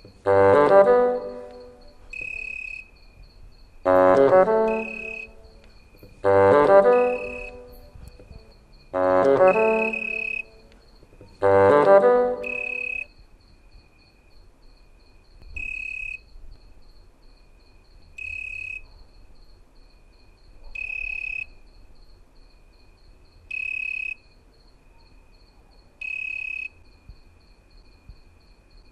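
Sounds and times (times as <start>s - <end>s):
faint pulsing cricket trill: 0.0s - 28.9s
loud high cricket trills: 0.0s - 28.9s.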